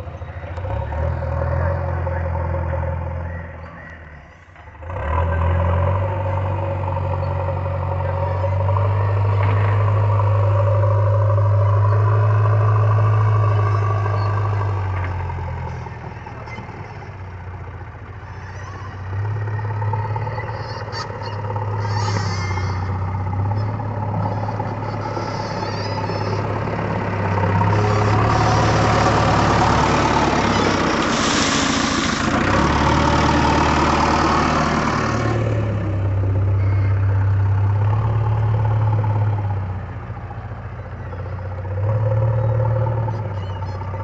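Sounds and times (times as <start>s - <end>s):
diesel engine revving: 0.0s - 44.0s.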